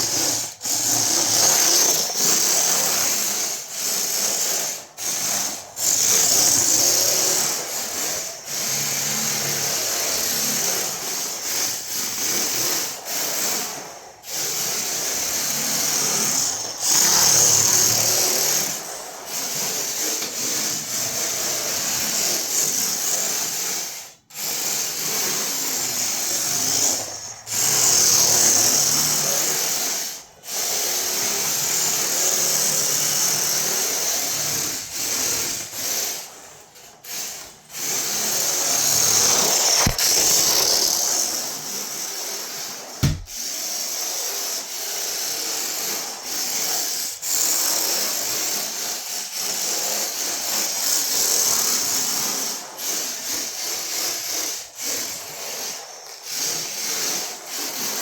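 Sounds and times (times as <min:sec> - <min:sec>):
small electric motor whirring: 0:00.0 - 0:58.0.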